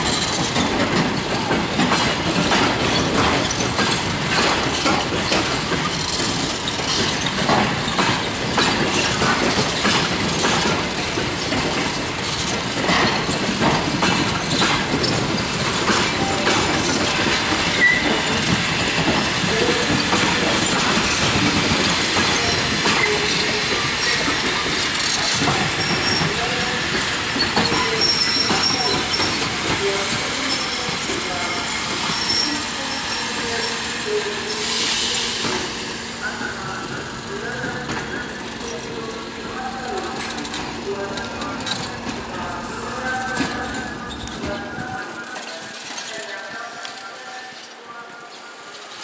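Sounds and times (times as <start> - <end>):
train wheel squeal: 0.0 - 46.4
train wheels clacking on rails: 0.0 - 49.0.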